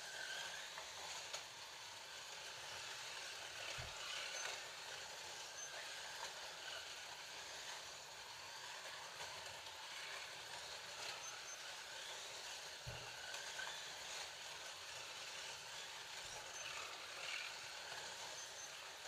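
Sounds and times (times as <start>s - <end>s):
slot cars whirring on track: 0.0s - 19.0s.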